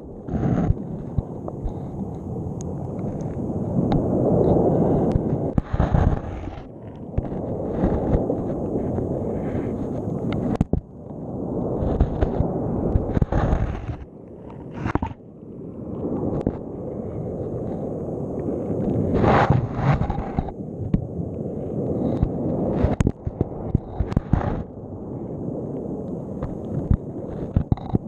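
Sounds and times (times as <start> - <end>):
underwater surf rumble: 0.0 - 28.0.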